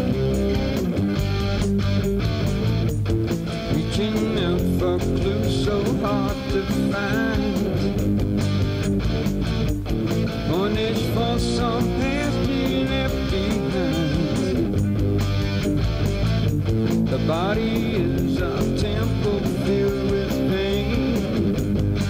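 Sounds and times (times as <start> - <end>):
rock music with electric guitar: 0.0 - 22.0.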